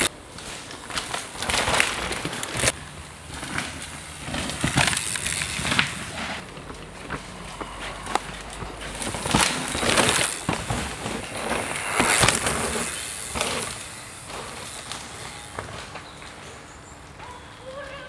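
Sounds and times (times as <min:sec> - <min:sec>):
tyres crunching over soil: 0:00.0 - 0:18.0
bike knocking over bumps: 0:00.5 - 0:16.6.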